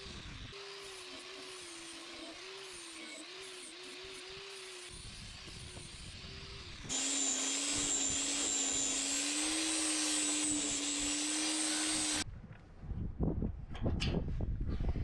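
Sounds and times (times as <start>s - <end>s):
angle grinder running: 0.0s - 12.2s
grinding steel hiss: 0.0s - 12.2s.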